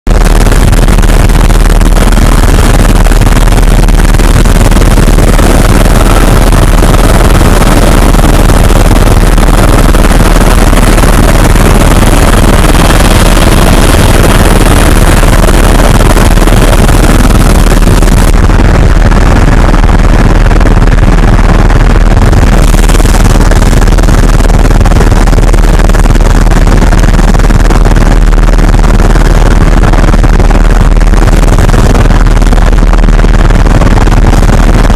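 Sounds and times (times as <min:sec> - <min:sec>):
helicopter rotor and engine din: 0:00.0 - 0:34.9.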